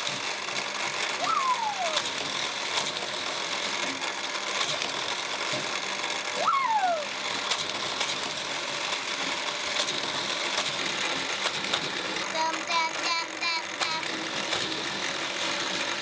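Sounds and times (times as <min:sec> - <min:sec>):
toy cars rattling on track: 0:00.0 - 0:16.0
track booster whirring: 0:00.0 - 0:16.0.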